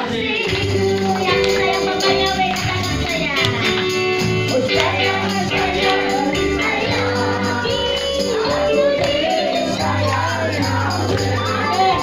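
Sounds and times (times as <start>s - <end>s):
group of voices singing: 0.0s - 12.0s
sustained bass accompaniment: 0.0s - 12.0s
tambourines shaken and struck: 0.0s - 12.0s.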